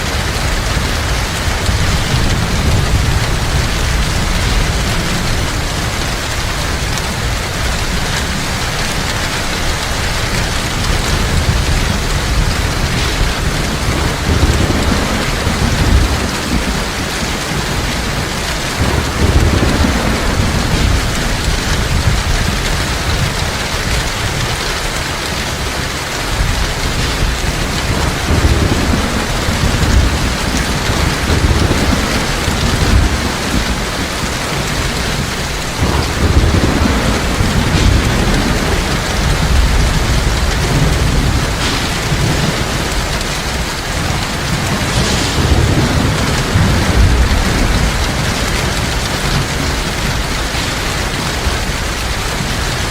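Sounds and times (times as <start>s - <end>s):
heavy rain hissing: 0.0s - 52.9s
thunder rolling: 0.0s - 52.9s.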